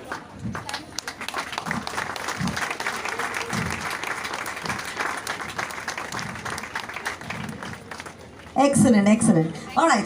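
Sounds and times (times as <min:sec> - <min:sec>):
audience clapping: 0:00.0 - 0:08.6.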